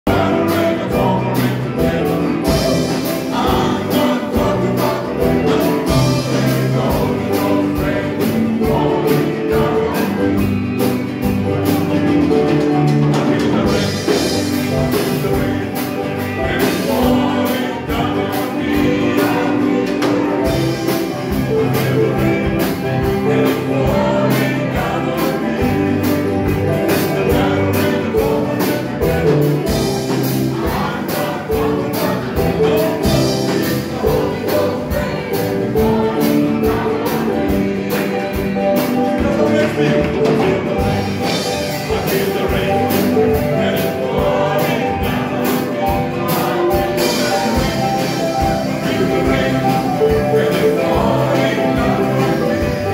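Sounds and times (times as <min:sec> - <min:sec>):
bass guitar: 0:00.0 - 0:52.9
voices singing together: 0:00.0 - 0:52.9
drum kit beat: 0:00.1 - 0:52.9
electric guitar: 0:00.1 - 0:52.9.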